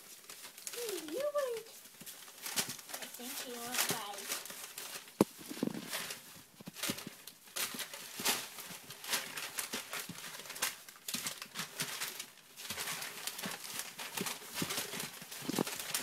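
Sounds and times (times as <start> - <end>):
newspaper crinkling and rustling: 0.0 - 16.0.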